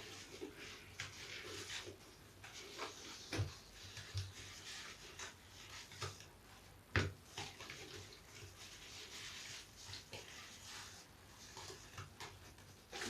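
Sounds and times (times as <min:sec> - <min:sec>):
sponge squelch: 0:00.0 - 0:13.0
wet sponge squishing: 0:00.0 - 0:13.0.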